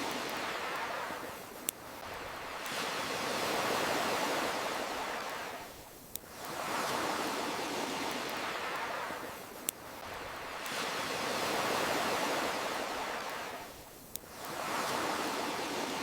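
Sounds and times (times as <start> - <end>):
campfire crackling pops: 0.0 - 6.6, 8.0 - 14.6
ocean waves washing in: 0.0 - 16.0.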